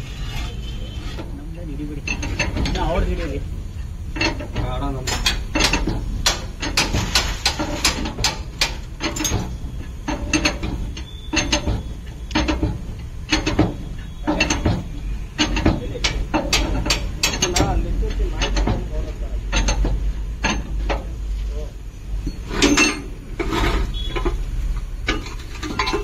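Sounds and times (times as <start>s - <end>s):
metallic clicks and clanks of tools: 1.9s - 21.2s, 22.2s - 26.0s.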